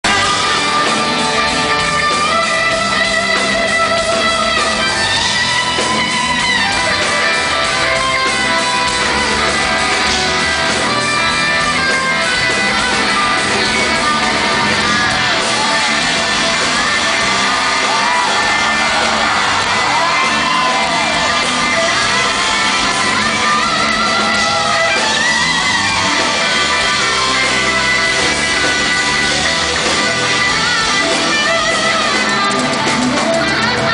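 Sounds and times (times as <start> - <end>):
electric guitar: 0.0 - 33.9
live rock band playing: 0.0 - 33.9.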